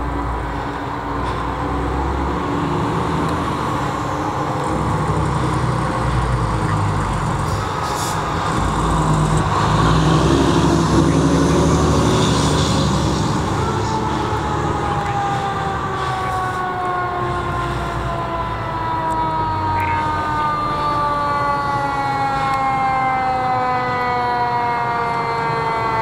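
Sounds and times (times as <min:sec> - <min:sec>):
truck diesel engine driving past: 0:00.0 - 0:22.2.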